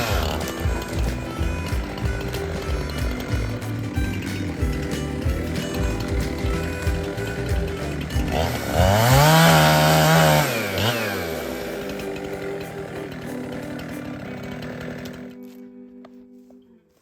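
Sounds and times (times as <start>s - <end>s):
chainsaw engine revving: 0.0s - 15.7s.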